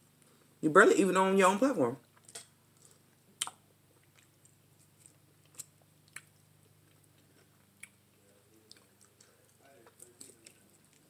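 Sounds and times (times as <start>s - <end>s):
person chewing quietly: 2.0s - 11.0s.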